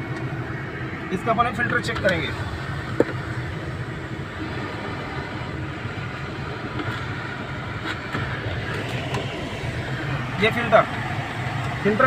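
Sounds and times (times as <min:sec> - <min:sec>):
air conditioning blower: 0:00.0 - 0:12.0
car engine idling: 0:00.0 - 0:12.0.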